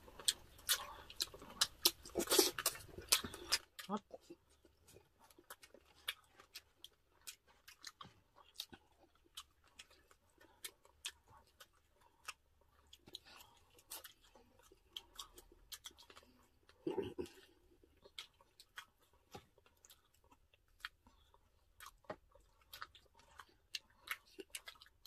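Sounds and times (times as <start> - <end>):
people chewing and lip-smacking: 0.0 - 25.0.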